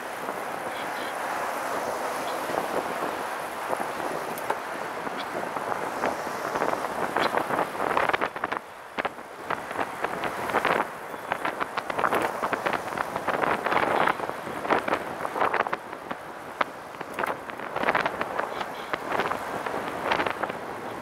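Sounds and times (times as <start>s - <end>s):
road and traffic noise: 0.0s - 21.0s
wind rushing over microphone: 0.0s - 21.0s.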